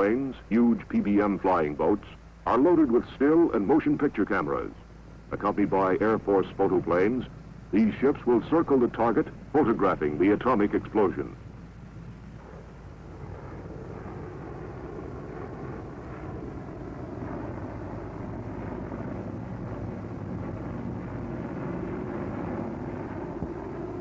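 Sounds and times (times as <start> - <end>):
propeller aircraft engines: 0.0 - 24.0.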